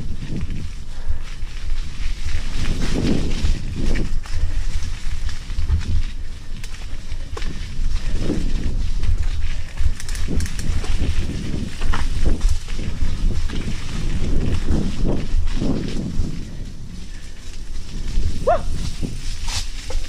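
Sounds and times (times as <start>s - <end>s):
bike clicking and rattling: 0.0s - 20.0s
bike tyres crackling over leaves: 0.0s - 20.0s
low wind rumble: 0.0s - 20.0s.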